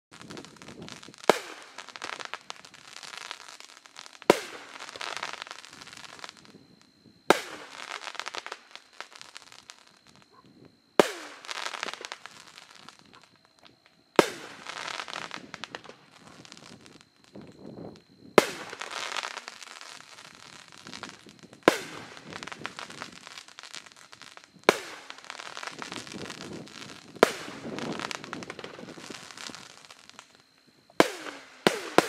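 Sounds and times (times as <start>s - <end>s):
firework bangs: 0.1s - 17.6s, 18.3s - 30.3s, 30.9s - 32.0s
firework crackling: 0.1s - 32.0s.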